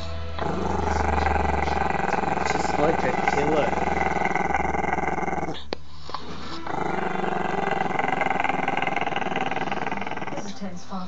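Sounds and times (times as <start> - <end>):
puppy growling: 0.3 - 10.8.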